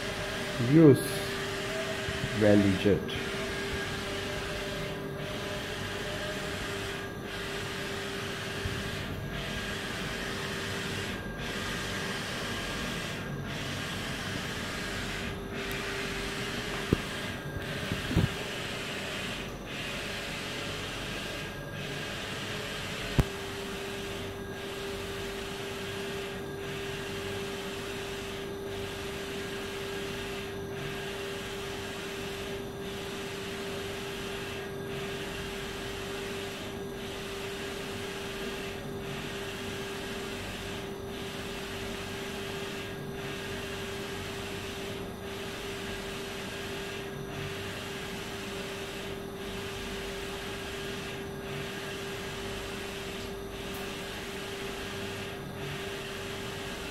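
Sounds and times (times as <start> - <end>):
printer carriage humming: 0.0 - 56.9.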